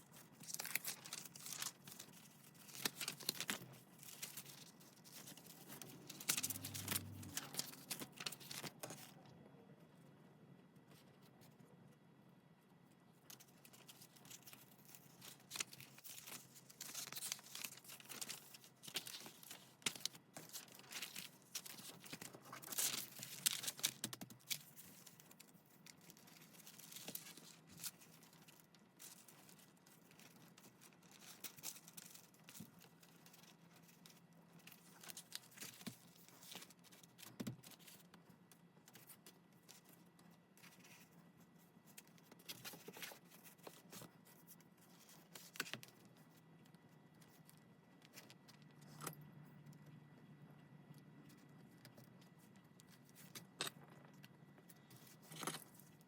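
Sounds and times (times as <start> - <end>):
paper rustling and crinkling: 0.0 - 9.2, 13.3 - 49.1.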